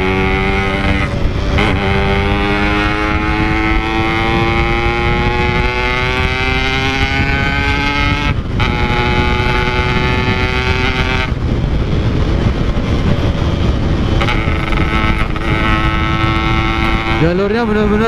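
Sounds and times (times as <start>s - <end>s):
motorcycle engine revving: 0.0s - 18.0s
wind and road noise: 0.0s - 18.0s.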